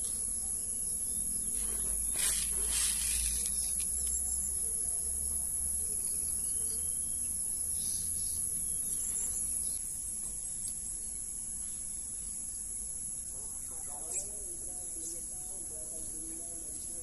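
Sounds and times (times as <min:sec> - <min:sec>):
field insects chorus: 0:00.0 - 0:17.0.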